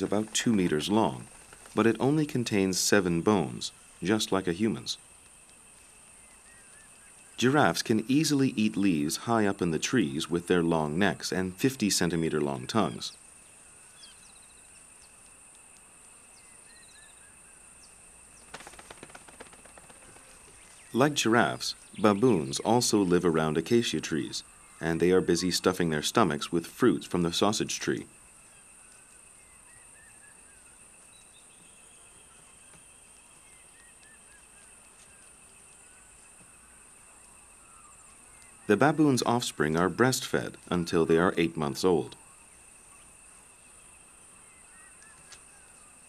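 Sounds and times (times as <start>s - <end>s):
birds chirping and trilling: 0.0s - 15.3s, 16.2s - 46.0s
insect drone: 0.0s - 46.0s.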